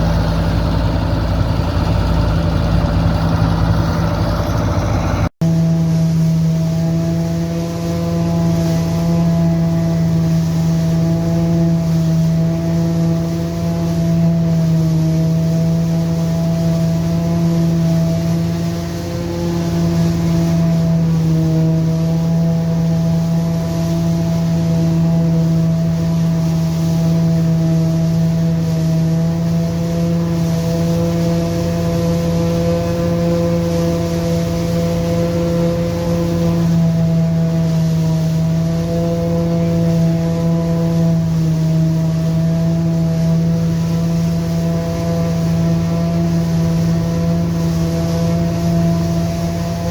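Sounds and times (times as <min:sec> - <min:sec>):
tractor and forage harvester running: 0:00.0 - 0:49.9.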